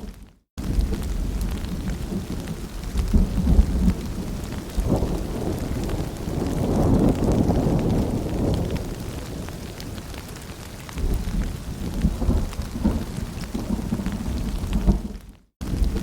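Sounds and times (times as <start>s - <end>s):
rain dripping through foliage: 0.0s - 16.0s.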